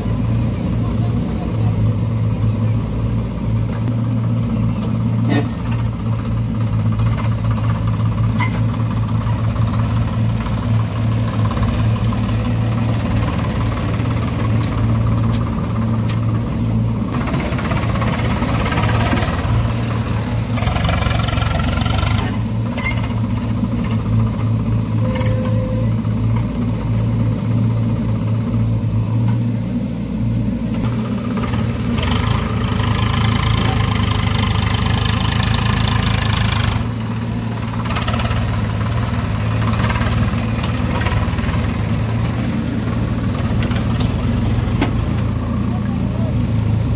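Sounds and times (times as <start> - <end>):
diesel engines revving: 0.0 - 46.9.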